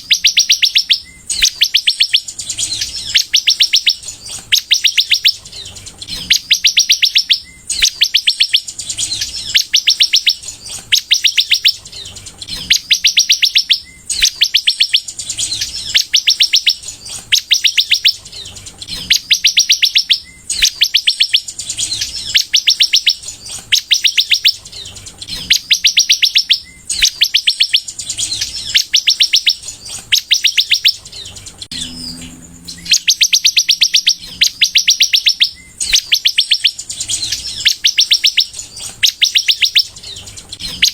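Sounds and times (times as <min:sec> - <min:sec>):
sunbird singing high trills: 0:00.0 - 0:40.9.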